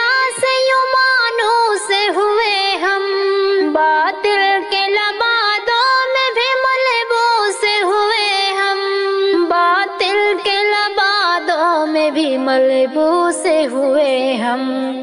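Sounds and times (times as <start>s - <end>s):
high voice singing: 0.0s - 15.0s.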